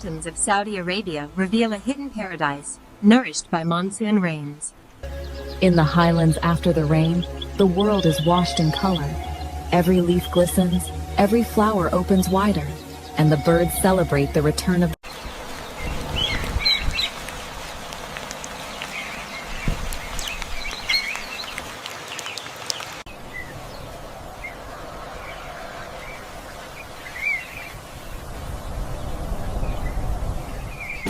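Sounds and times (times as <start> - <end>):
wild birds chirping: 4.7 - 14.0, 15.0 - 31.0.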